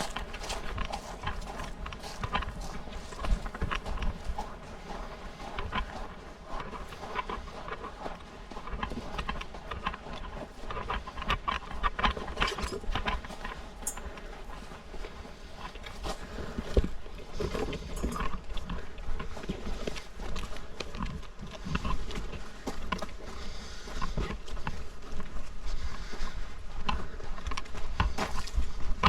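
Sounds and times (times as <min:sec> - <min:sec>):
footsteps crunching over rock: 0:00.0 - 0:29.0.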